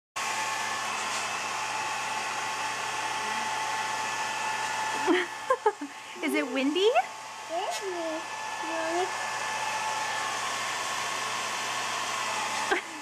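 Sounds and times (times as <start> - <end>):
hair dryer running: 0.2 - 13.0.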